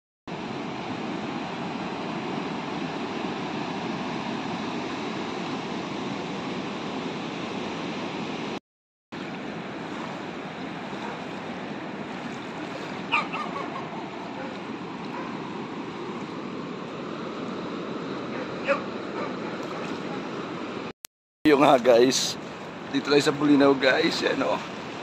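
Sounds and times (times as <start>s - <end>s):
waves breaking and lapping: 0.3s - 20.9s, 21.5s - 25.0s.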